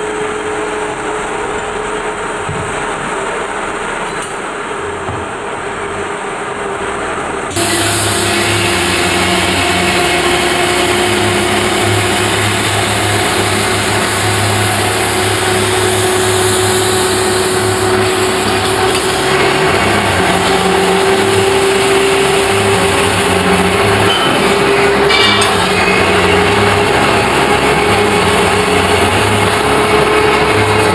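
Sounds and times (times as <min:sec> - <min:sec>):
metal-spinning lathe whirring: 0:00.0 - 0:30.9.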